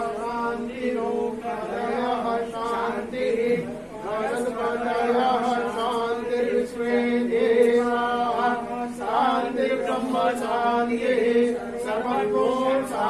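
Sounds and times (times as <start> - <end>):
group chanting in held notes: 0.0 - 13.0.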